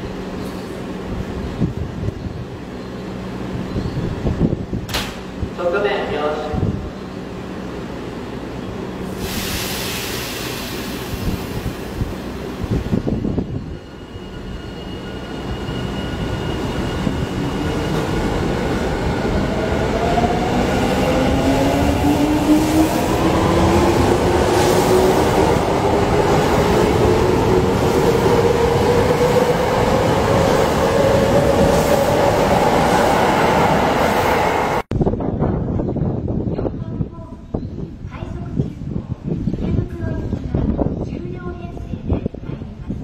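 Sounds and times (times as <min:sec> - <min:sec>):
subway train running noise: 0:00.0 - 0:43.0.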